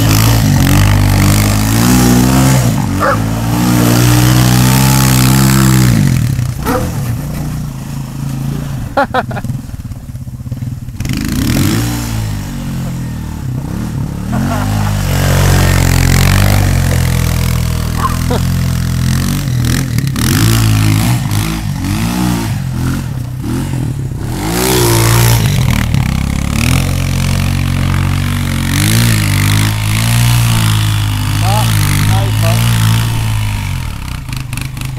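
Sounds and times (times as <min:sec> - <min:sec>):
quad engine revving: 0:00.0 - 0:34.9.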